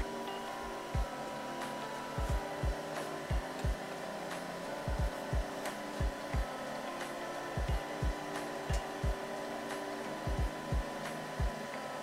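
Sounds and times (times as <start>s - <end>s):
printer fans whirring: 0.0s - 12.0s.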